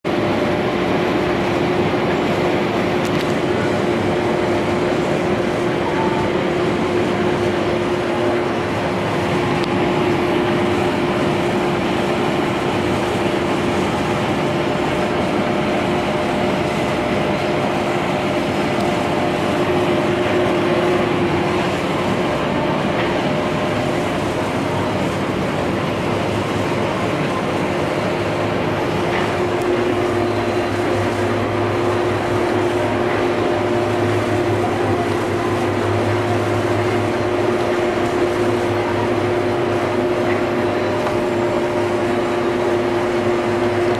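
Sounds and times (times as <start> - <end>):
combine harvester drone: 0.0 - 43.9
constant machinery whine: 0.0 - 43.9.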